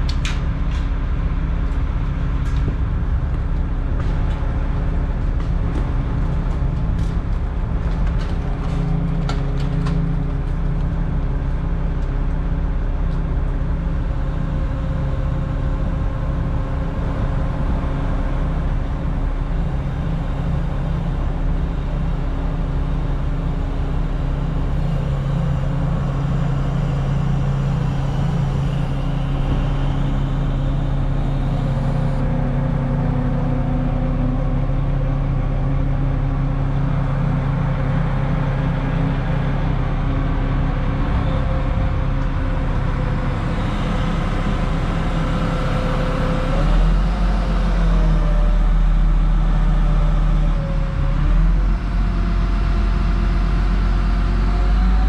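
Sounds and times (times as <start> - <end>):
crane diesel engine running: 0.0 - 55.0.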